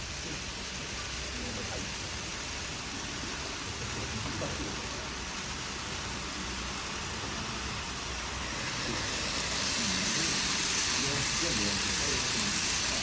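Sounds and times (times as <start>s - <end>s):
model trains rolling hiss: 0.0s - 13.0s.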